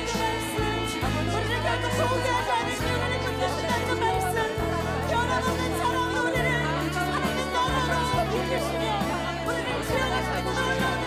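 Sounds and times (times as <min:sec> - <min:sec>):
band accompaniment: 0:00.0 - 0:11.0
vocal group singing in harmony: 0:00.0 - 0:11.0.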